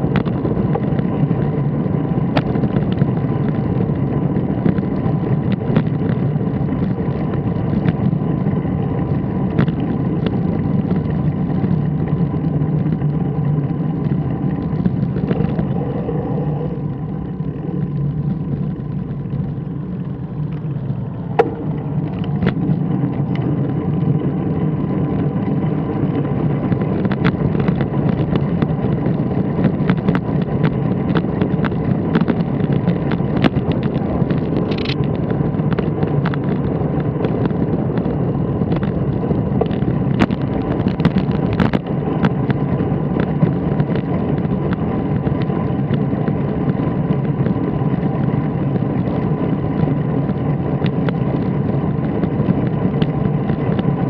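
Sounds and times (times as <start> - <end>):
faint whine: 0.0 - 54.0
road and wind rumble: 0.0 - 54.0.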